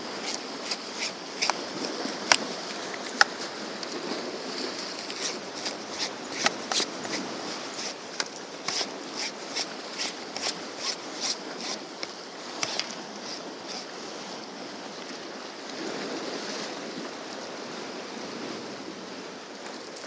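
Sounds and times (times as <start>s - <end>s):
surf washing against rocks: 0.0s - 20.0s
wind: 0.0s - 20.0s.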